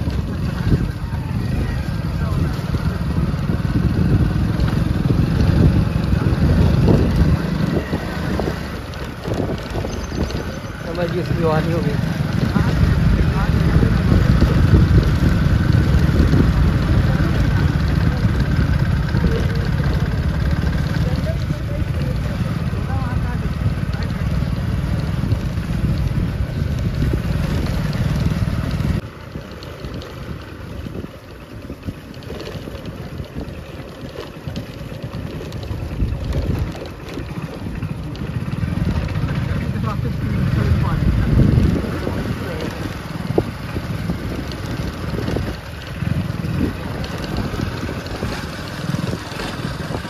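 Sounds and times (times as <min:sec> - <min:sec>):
motorcycle engine running: 0:00.0 - 0:50.0
wind rumble on microphone: 0:00.0 - 0:50.0.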